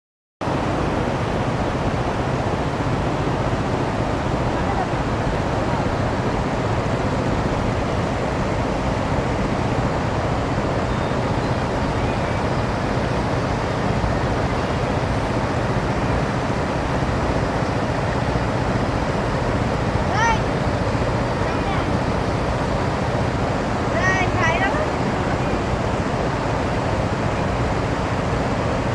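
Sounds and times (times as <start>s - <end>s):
river water rushing: 0.4s - 28.9s.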